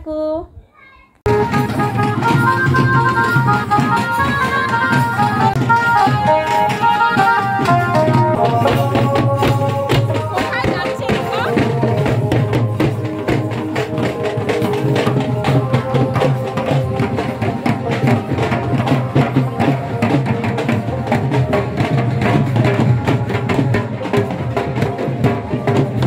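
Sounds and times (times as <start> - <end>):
loud music with fast drum beat: 1.3 - 26.0.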